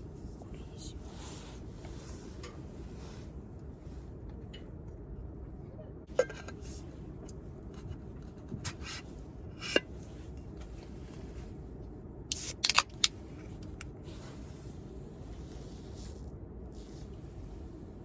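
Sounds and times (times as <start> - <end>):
steady low background noise: 0.0 - 18.0.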